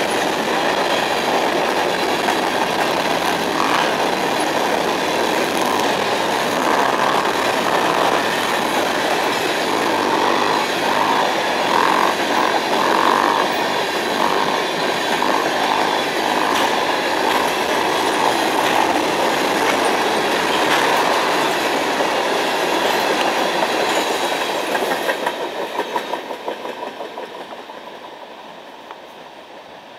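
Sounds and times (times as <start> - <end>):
wheels clacking over rail joints: 0.0 - 28.2
freight train rumbling past: 0.0 - 29.9.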